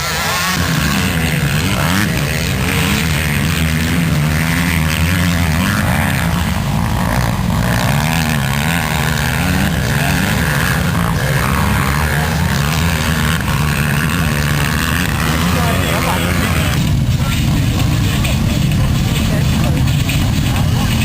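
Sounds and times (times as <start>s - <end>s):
motorcycle engines droning: 0.0s - 21.0s.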